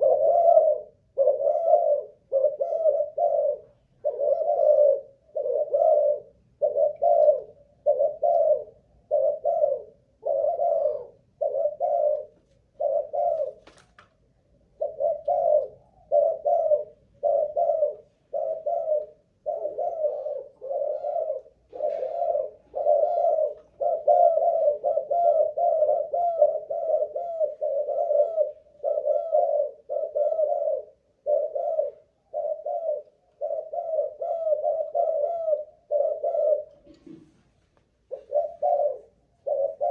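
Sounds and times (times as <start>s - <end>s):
dove cooing: 0.0s - 13.8s, 14.7s - 37.4s, 38.0s - 39.9s.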